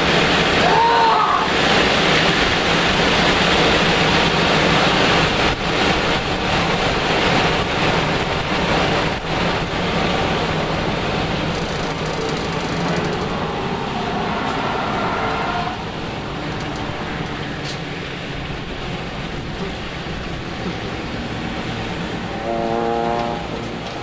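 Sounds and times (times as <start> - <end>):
car engine pulling hard: 0.0 - 24.0
road and wind noise: 0.0 - 24.0.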